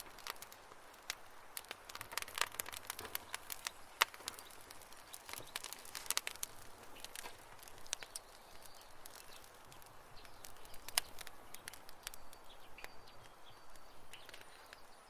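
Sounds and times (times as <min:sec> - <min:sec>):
campfire crackling and popping: 0:00.0 - 0:15.0
soft fire hiss: 0:00.0 - 0:15.0.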